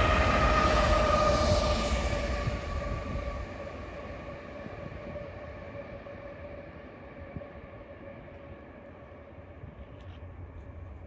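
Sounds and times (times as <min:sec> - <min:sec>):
freight train rumble: 0:00.0 - 0:11.0
train high whine: 0:00.0 - 0:11.0.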